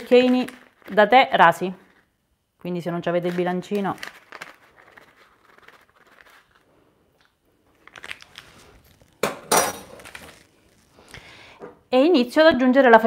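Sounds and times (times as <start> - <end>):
paper sachet rustling: 0.0 - 2.1, 2.7 - 11.4.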